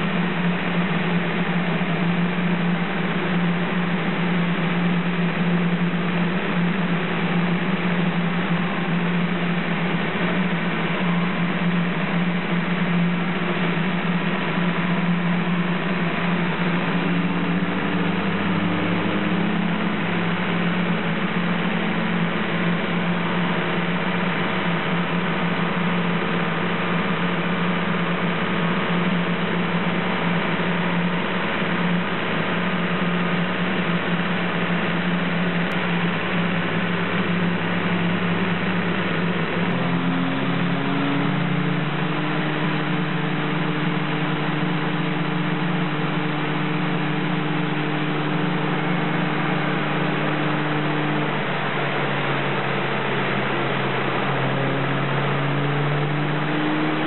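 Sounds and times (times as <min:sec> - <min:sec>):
car engine running under load: 0:00.0 - 0:57.0.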